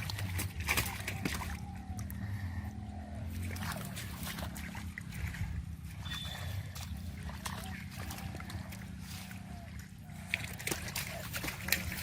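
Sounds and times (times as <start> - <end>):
muddy water splashing: 0.0 - 12.0
steady low hum: 0.0 - 12.0.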